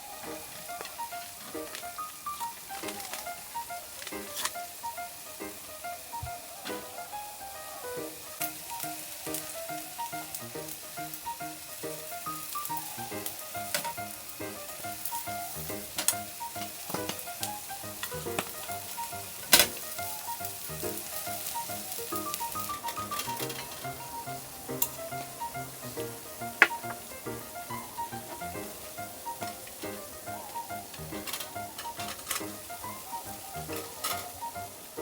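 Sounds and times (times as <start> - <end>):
food sizzling in a pan: 0.0 - 35.0
soft background music: 0.0 - 35.0
utensils clicking on pan: 0.1 - 6.0, 8.1 - 35.0.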